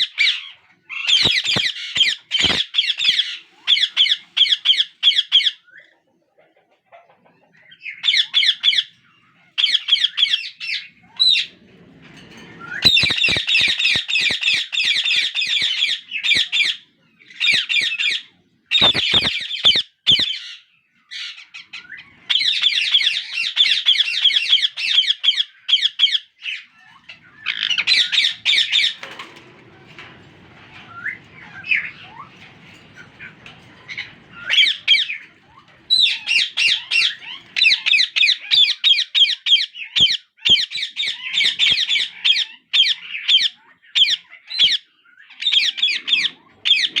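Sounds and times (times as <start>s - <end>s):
parakeet chicks squawking: 0.1s - 5.6s, 12.5s - 47.0s.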